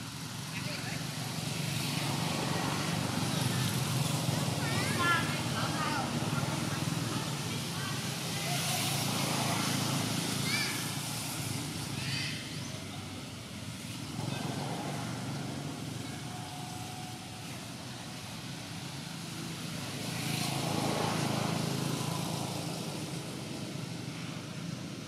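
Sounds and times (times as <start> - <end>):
distant traffic rumble: 0.0 - 25.0
vehicle passing: 0.6 - 24.5.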